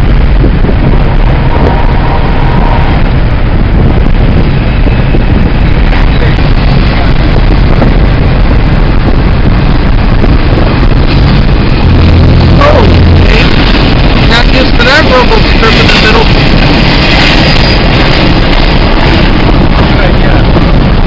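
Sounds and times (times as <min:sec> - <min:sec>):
car road noise at highway speed: 0:00.0 - 0:21.0
wind buffeting microphone: 0:00.0 - 0:21.0.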